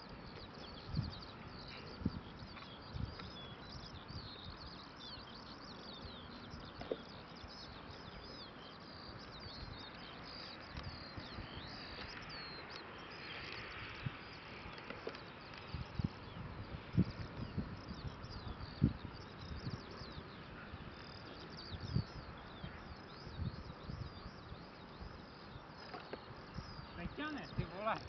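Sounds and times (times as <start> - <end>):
outdoor background hiss: 0.0 - 28.0
songbirds chirping and warbling: 0.0 - 28.0.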